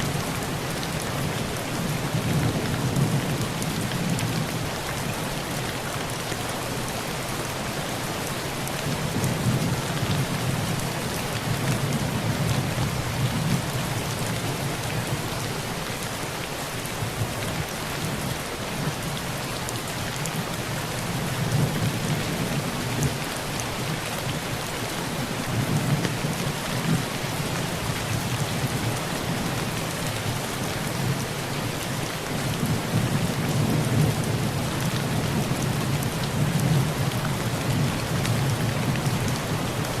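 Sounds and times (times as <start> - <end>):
heavy rain on a tin roof: 0.0 - 40.0.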